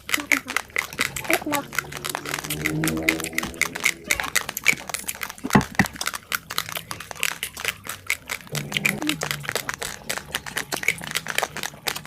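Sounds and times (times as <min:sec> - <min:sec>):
raw rice being chewed: 0:00.0 - 0:12.0.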